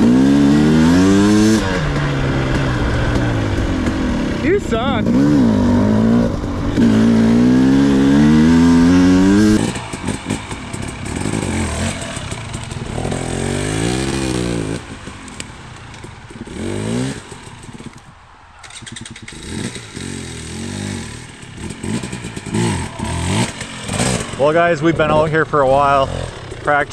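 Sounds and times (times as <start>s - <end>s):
two-stroke dirt bike engine revving: 0.0s - 26.9s.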